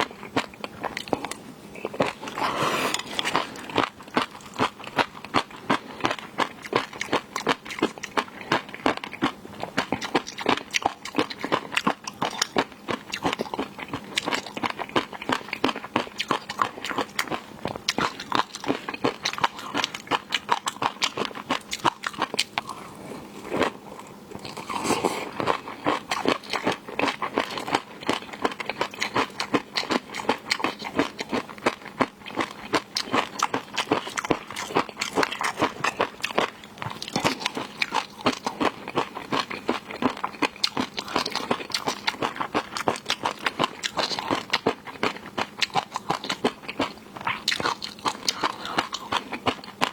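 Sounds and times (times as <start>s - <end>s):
person chewing crunchy seafood: 0.0s - 49.9s.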